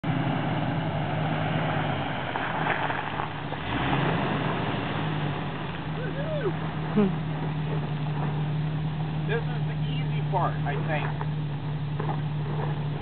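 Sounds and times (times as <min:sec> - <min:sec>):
car engine running at low speed: 0:00.0 - 0:13.0.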